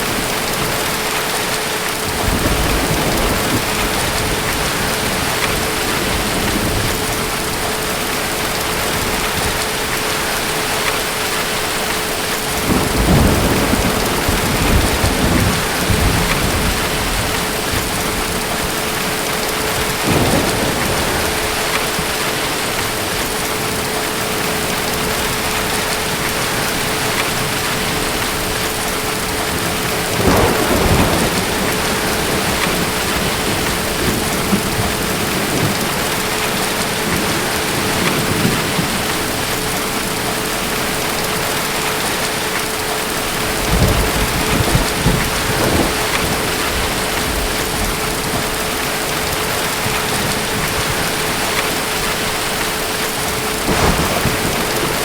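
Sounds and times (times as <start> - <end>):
steady rain: 0.0 - 55.0
distant thunder rolls: 2.1 - 10.8, 12.4 - 23.9, 24.5 - 40.0, 43.4 - 55.0.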